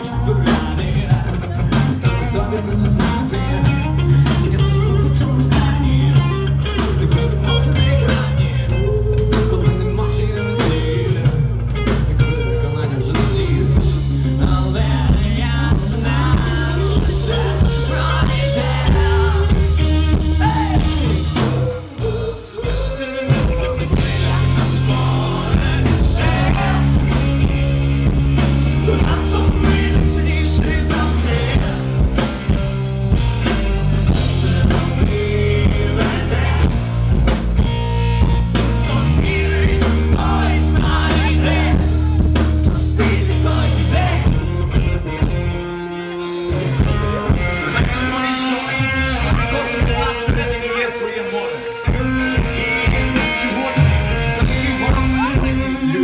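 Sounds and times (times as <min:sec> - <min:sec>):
person singing: 0:00.0 - 0:11.6, 0:12.4 - 0:27.7, 0:28.6 - 0:32.5, 0:33.8 - 0:37.0, 0:37.6 - 0:44.5, 0:46.5 - 0:56.0
bass guitar: 0:00.0 - 0:56.0
drums: 0:00.0 - 0:56.0
electric guitar: 0:00.0 - 0:56.0.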